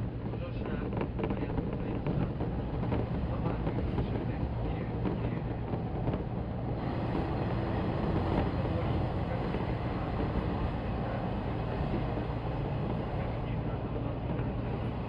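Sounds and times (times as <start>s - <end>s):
electric train rumble and hiss: 0.4s - 15.0s.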